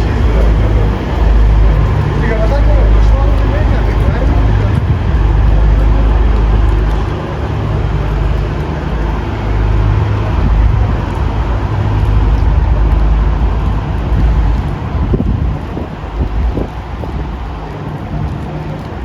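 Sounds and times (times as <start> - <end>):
diesel railcar engine drone: 0.0 - 19.0
rail noise: 0.0 - 19.0.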